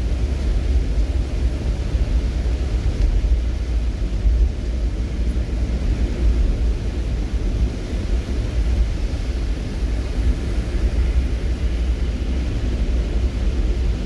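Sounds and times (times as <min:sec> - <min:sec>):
rain hiss: 0:00.2 - 0:14.0.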